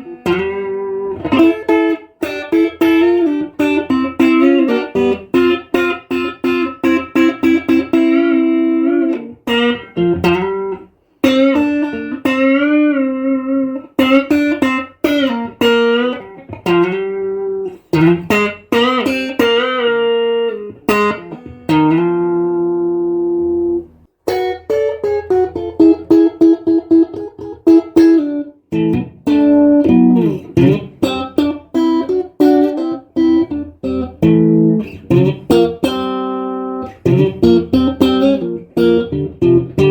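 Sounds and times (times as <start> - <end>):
solo electric guitar: 0.0 - 39.9.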